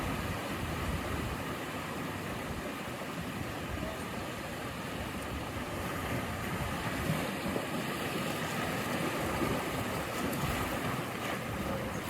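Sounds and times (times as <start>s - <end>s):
sea surf washing on shore: 0.0s - 12.0s.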